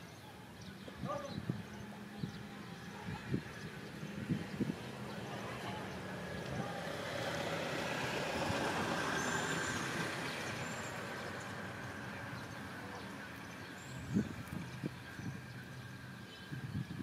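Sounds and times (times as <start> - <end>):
motor vehicle passing: 1.1 - 16.2.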